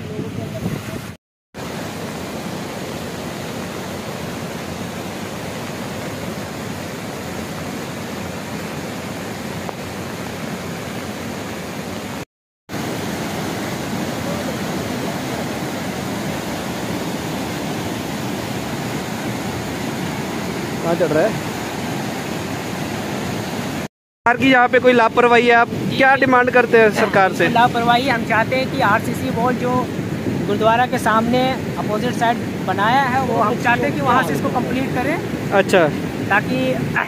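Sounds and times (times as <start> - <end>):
floodwater rushing: 0.1 - 37.0.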